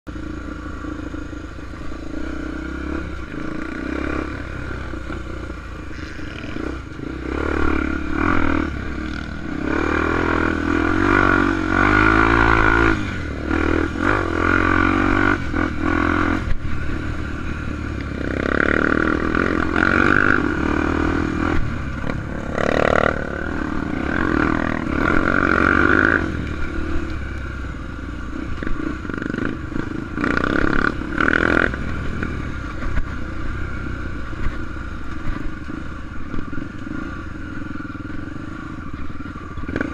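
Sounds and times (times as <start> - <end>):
motorcycle engine revving: 0.1 - 39.9.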